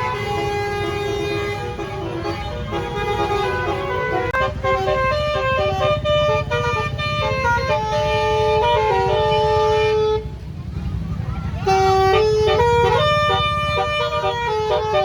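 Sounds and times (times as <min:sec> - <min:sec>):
bus horn playing melody: 0:00.0 - 0:10.5, 0:11.6 - 0:15.0
bus rumble: 0:00.0 - 0:15.0.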